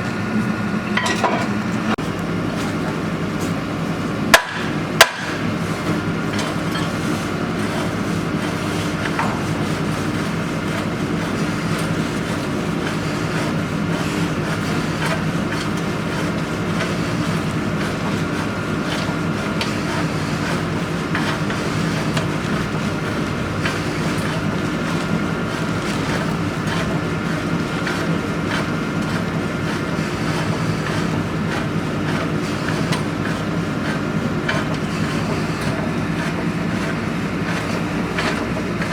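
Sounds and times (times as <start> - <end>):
drilling rig engine humming: 0.0 - 38.9.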